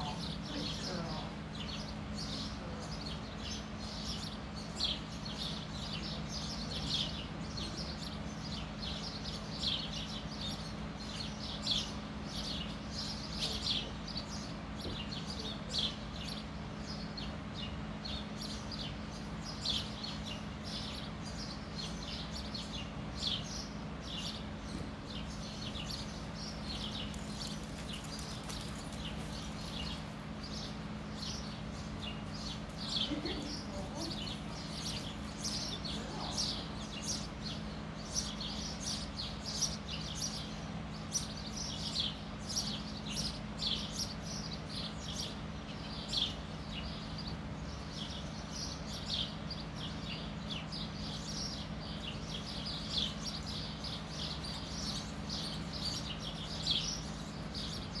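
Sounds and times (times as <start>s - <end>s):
small bird chirping: 0.0s - 58.0s
steady low hum: 0.0s - 58.0s.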